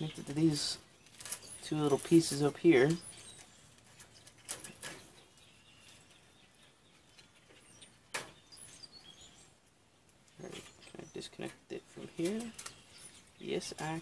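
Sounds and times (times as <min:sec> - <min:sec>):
light clicks and rustles: 0:00.1 - 0:14.0.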